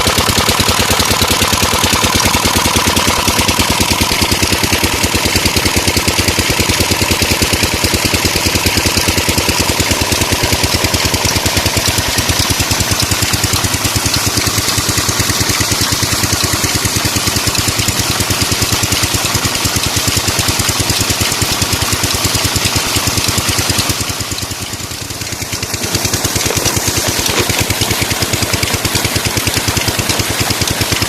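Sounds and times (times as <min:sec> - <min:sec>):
diesel engine knocking: 0:00.0 - 0:31.0.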